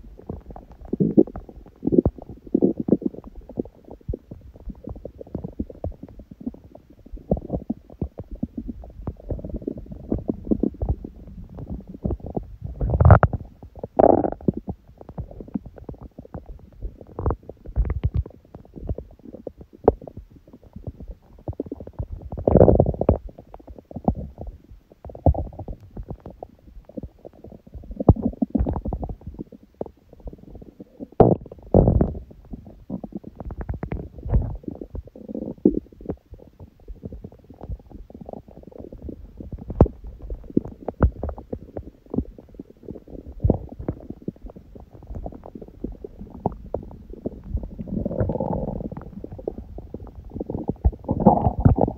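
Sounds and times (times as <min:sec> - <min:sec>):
stomach growling and gurgling: 0:00.0 - 0:51.9.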